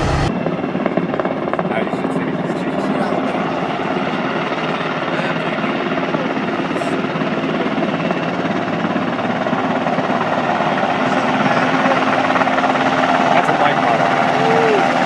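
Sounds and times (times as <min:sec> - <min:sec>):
helicopter flying low: 0:00.0 - 0:15.0.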